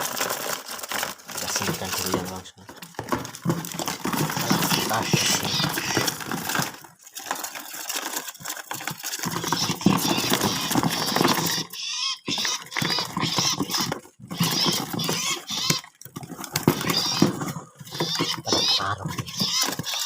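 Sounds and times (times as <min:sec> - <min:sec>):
birds fluttering in cardboard box: 0:00.0 - 0:20.0
scratching on cardboard: 0:00.0 - 0:20.0.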